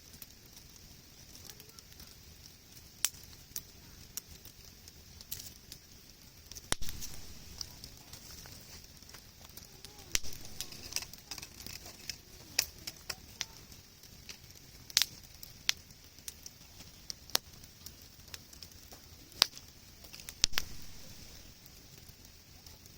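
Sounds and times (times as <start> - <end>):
burning wood popping: 0.0 - 22.9
campfire crackling: 0.0 - 22.9.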